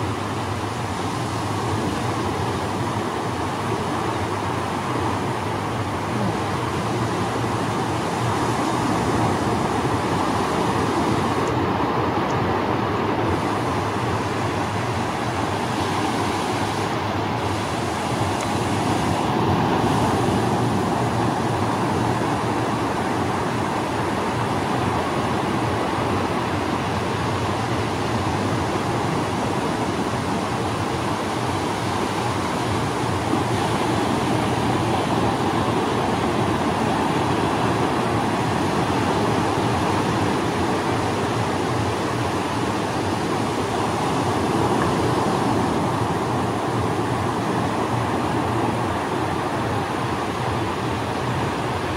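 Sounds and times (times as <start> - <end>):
ocean surf breaking: 0.0 - 51.9.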